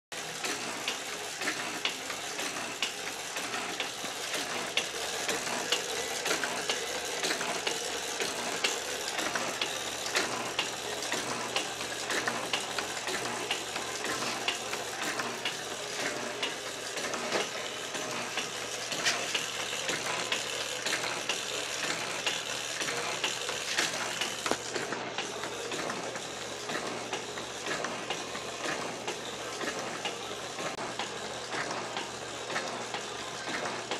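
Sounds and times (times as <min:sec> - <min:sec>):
metal shaper running: 0:00.2 - 0:33.9.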